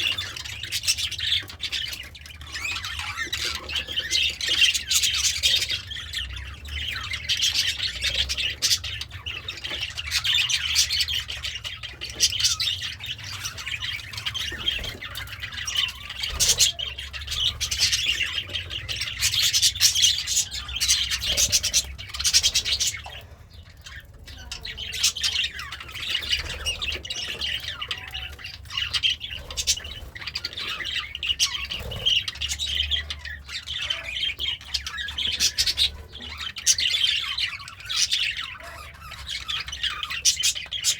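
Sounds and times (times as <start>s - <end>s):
budgerigar chattering and warbling: 0.0s - 40.9s.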